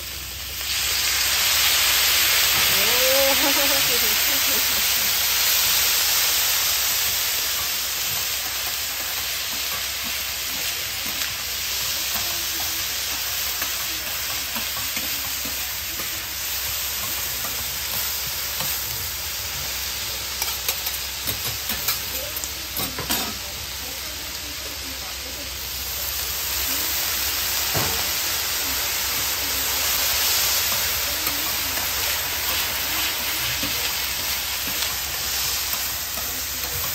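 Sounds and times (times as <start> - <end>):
noodles sizzling on a griddle: 0.0 - 36.9.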